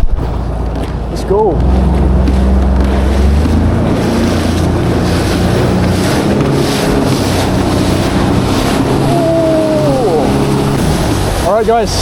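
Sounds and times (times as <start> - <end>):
jet ski engine running: 0.0 - 12.0
wind buffeting microphone: 0.0 - 12.0.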